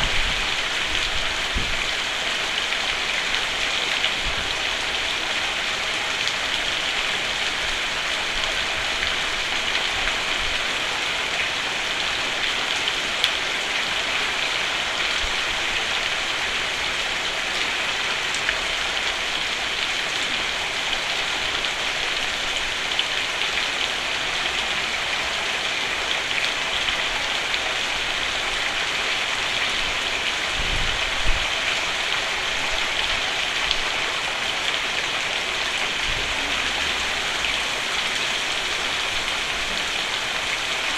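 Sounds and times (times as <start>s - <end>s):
rain on a roof: 0.0s - 40.9s.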